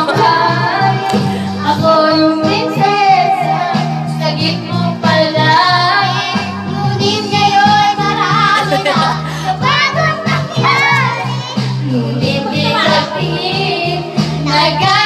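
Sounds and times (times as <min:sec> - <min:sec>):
girl singing into a microphone: 0:00.0 - 0:15.0
recorded backing music: 0:00.0 - 0:15.0.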